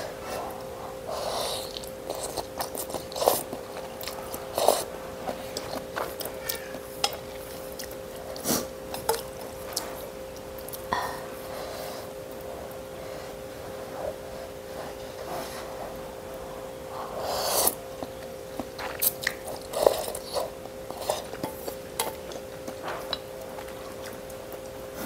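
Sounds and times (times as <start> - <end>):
slurping and chewing noodles: 0.0 - 25.0
steady low hum: 0.0 - 25.0.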